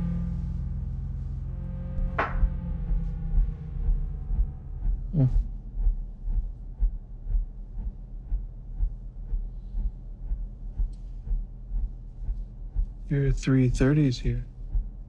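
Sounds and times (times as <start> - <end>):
low steady pulse: 0.0 - 15.0.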